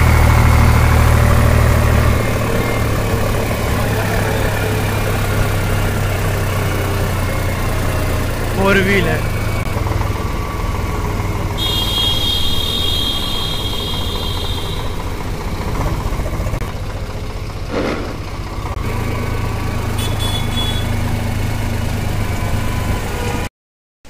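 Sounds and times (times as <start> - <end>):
tractor diesel engine droning: 0.0 - 23.5.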